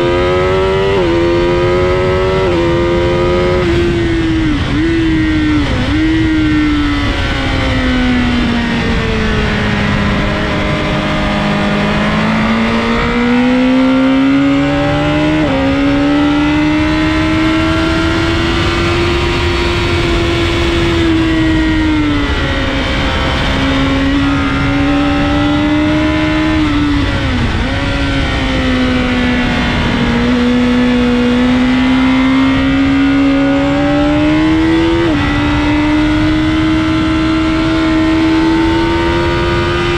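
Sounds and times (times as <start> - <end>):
heavy wind noise: 0.0 - 39.9
motorcycle engine revving: 0.0 - 39.9.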